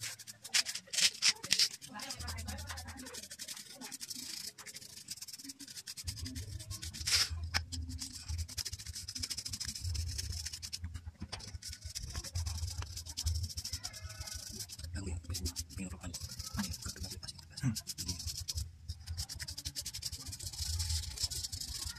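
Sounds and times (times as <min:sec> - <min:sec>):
paintbrush scrubbing plastic: 0:00.0 - 0:21.9.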